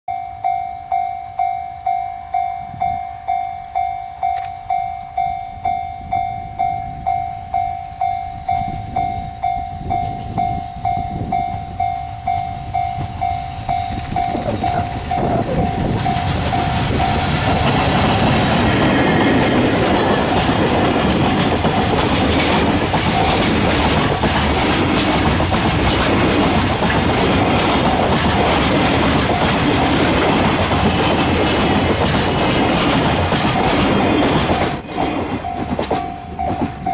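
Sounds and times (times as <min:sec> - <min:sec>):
level crossing warning bell: 0:00.1 - 0:36.9
freight train passing: 0:00.2 - 0:36.9.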